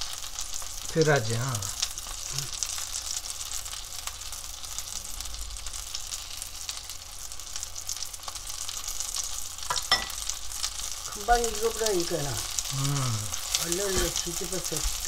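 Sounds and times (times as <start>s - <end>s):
pancakes frying in oil: 0.0s - 15.0s.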